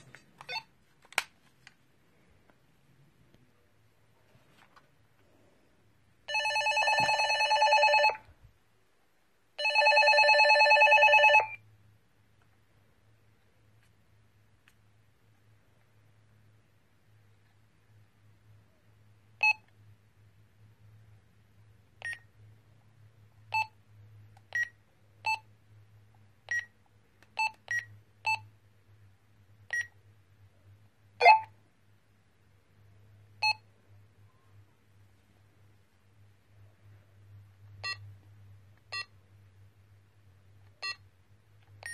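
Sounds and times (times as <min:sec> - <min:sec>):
faint low hum: 0:00.0 - 0:41.9.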